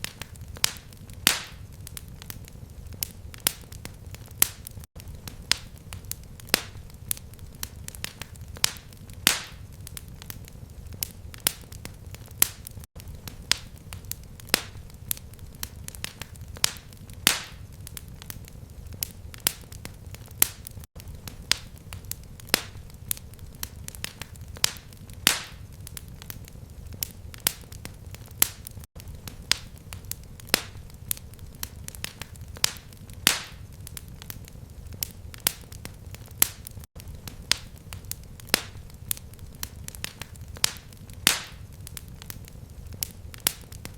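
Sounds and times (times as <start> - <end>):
fireplace fire crackling: 0.0 - 43.9.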